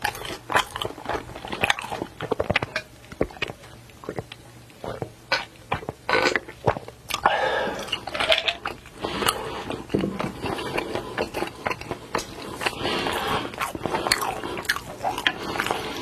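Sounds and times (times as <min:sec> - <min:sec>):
person biting and chewing food: 0:00.0 - 0:16.0.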